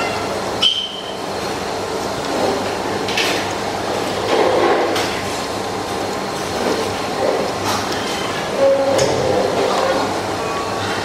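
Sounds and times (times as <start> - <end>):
indistinct restaurant noise: 0.0 - 11.0.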